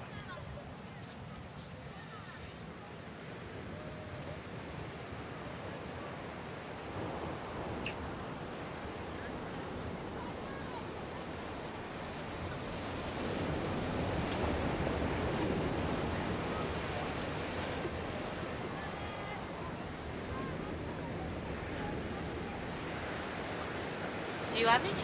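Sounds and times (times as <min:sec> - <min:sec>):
ocean surf washing onto beach: 0:00.2 - 0:25.0.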